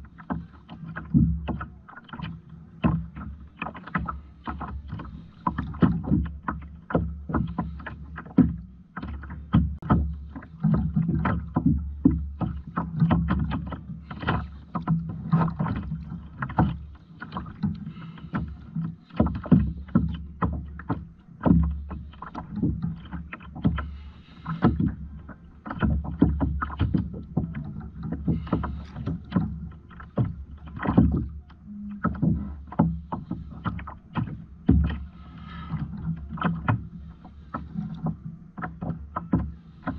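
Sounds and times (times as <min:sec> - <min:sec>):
water splashing against hull: 0:00.0 - 0:39.9.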